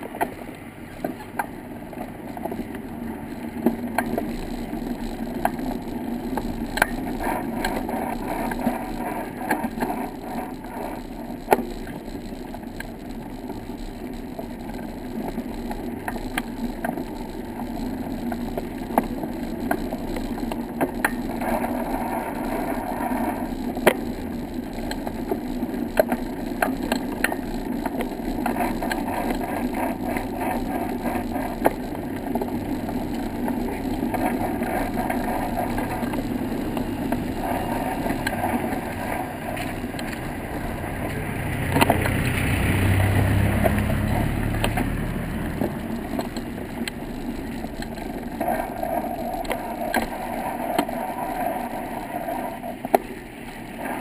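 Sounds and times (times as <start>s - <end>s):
tyres rolling on path: 0.0s - 54.0s.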